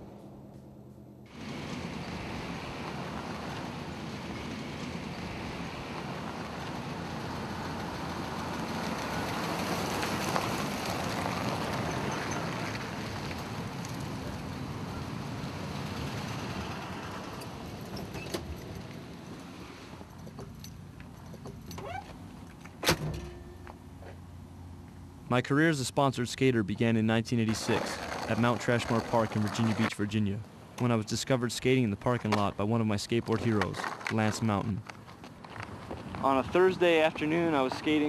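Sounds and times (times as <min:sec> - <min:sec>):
wheels rolling over asphalt: 0:01.3 - 0:22.8, 0:27.5 - 0:30.9, 0:32.0 - 0:38.0.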